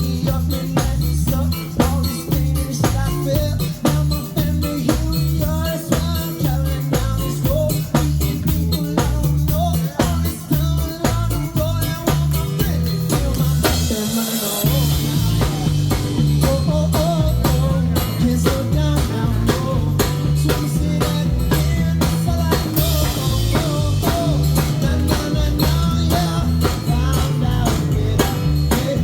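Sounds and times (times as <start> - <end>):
bass line: 0.0 - 29.0
drum kit beat: 0.0 - 29.0
live band instrumental: 0.0 - 29.0.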